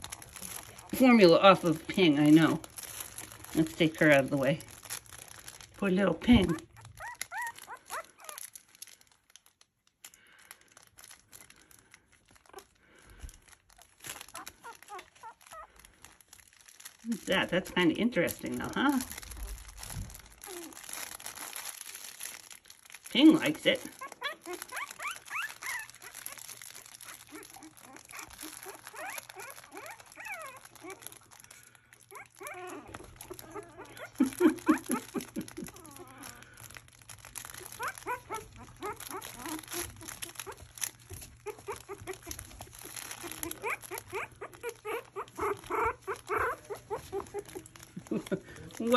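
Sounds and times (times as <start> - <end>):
puppies squeaking: 0.0 - 8.7, 13.7 - 22.4, 23.3 - 48.9
crinkle toy crackling: 0.0 - 48.9.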